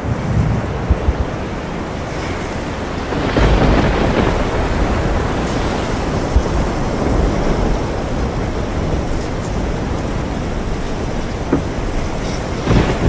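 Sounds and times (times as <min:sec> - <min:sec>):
sea waves: 0:00.0 - 0:13.0
wind gusting on microphone: 0:00.0 - 0:13.0.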